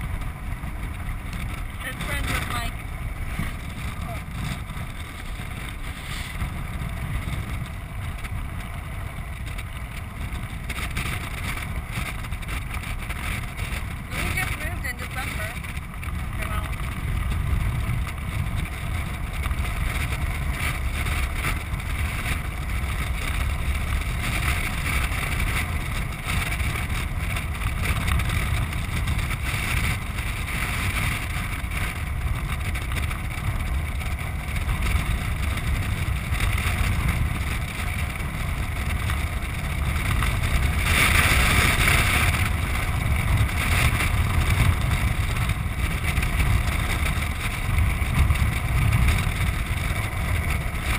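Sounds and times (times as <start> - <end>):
wind rushing on microphone: 0.0 - 50.9.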